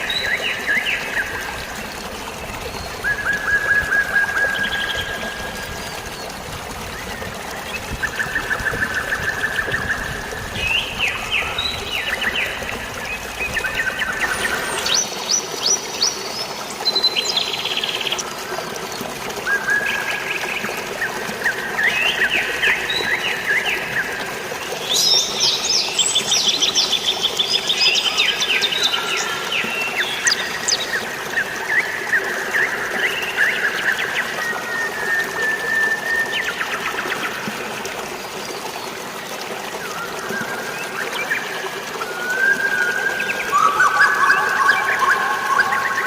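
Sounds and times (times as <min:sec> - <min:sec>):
songbirds singing: 0:00.0 - 0:39.0, 0:39.8 - 0:46.0
running water: 0:00.0 - 0:46.0.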